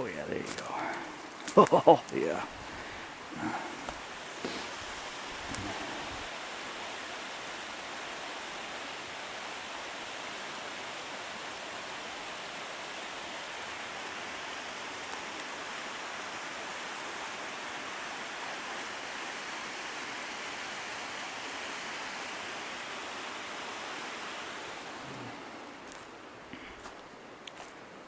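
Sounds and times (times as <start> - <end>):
waterfall rushing: 0.0 - 27.4.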